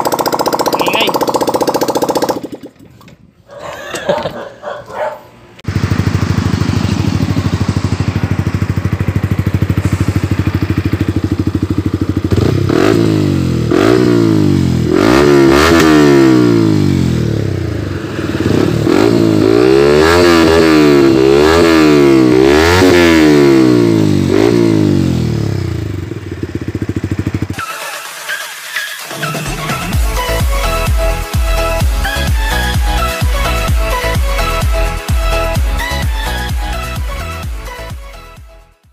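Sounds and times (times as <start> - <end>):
motorcycle engine idling and revving: 0.0 - 3.3, 4.2 - 38.9.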